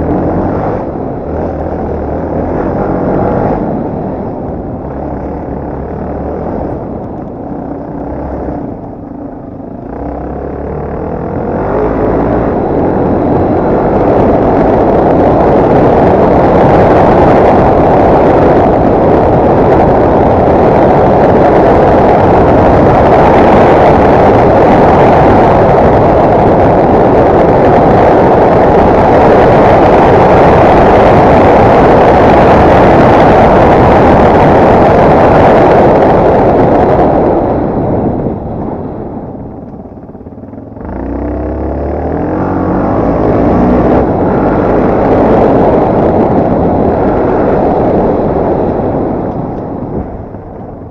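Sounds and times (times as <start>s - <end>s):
motorcycle engine running: 0.0s - 50.9s
wind rushing on microphone: 0.0s - 50.9s.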